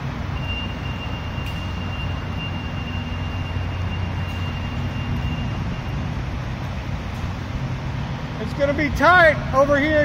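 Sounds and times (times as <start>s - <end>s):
road noise: 0.0s - 10.0s
truck engine rumble: 0.0s - 10.0s.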